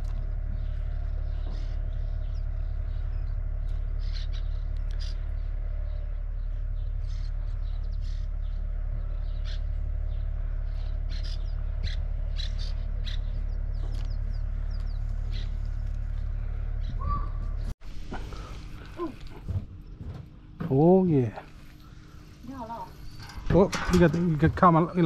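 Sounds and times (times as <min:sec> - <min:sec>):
birds chirping: 0:00.0 - 0:25.0
steady low rumble: 0:00.0 - 0:25.0.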